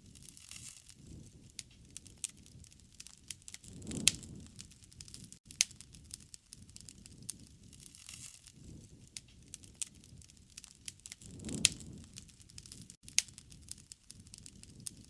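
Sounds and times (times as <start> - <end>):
low rumble of fire: 0.0 - 15.0
wood campfire crackling: 0.0 - 15.0.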